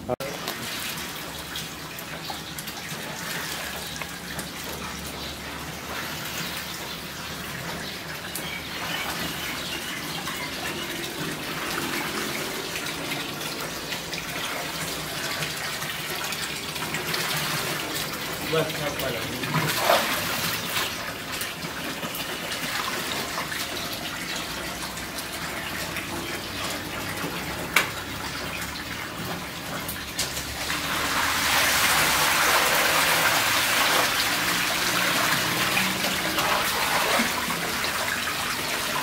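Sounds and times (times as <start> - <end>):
hose water running into metal pots: 0.0 - 39.0
water splashing: 0.0 - 39.0.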